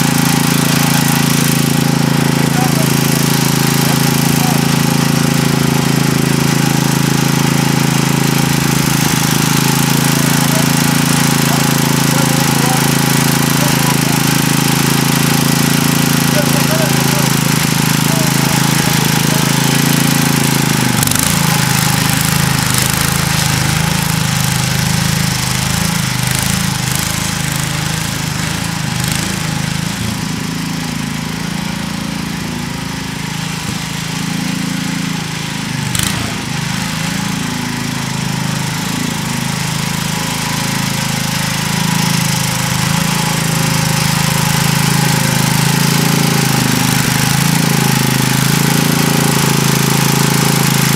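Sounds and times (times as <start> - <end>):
garden tractor engine running: 0.0 - 50.9.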